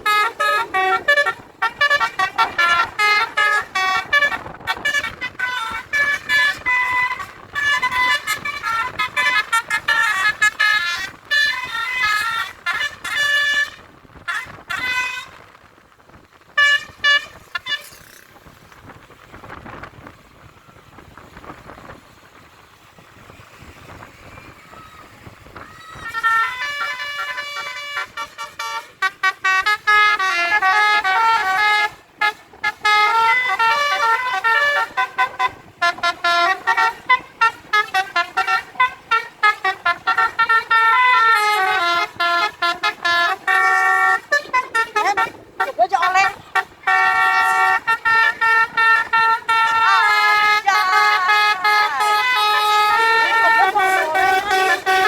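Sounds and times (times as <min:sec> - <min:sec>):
musical air horn playing a tune: 0:00.0 - 0:18.4, 0:23.6 - 0:55.0
faint street background: 0:00.0 - 0:55.0.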